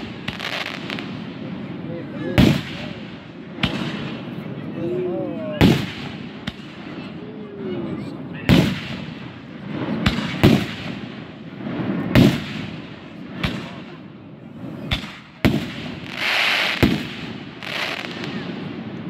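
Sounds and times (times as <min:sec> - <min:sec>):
fireworks bangs with echo: 0:00.0 - 0:19.0
fireworks crackling: 0:00.0 - 0:19.0.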